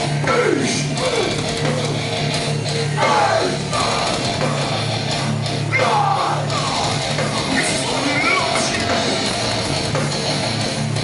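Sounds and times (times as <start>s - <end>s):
punk band playing loud: 0.0s - 11.0s.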